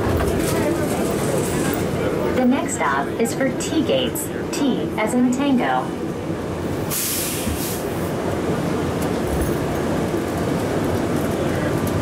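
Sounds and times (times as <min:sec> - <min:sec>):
train cabin running noise: 0:00.0 - 0:12.0.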